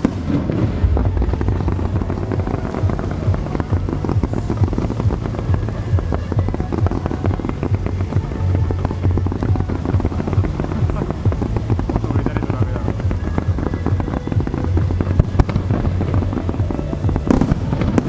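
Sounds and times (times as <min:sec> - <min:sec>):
fireworks crackling pops: 0:00.0 - 0:18.0
low rumble: 0:00.0 - 0:18.0.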